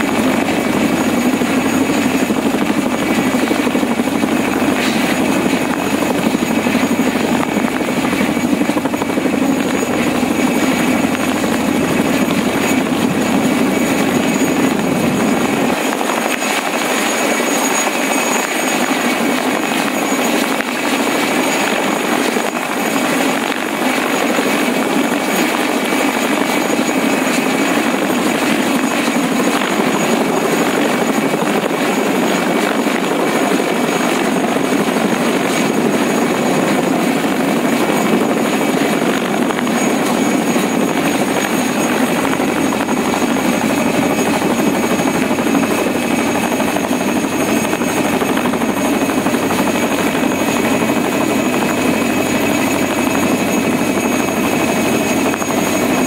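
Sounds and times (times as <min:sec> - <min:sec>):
helicopter rotor noise: 0:00.0 - 0:56.0.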